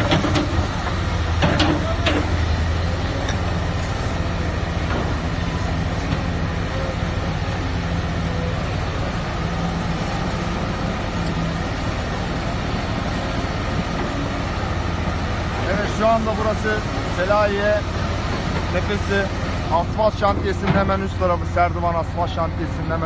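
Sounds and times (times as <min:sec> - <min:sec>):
continuous rushing noise: 0:00.0 - 0:23.0
diesel engine hum: 0:00.0 - 0:23.0.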